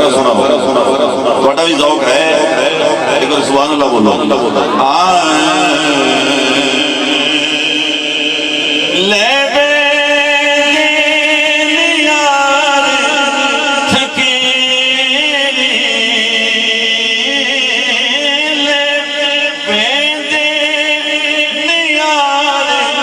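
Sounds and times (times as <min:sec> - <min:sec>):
man singing: 0:00.0 - 0:23.0.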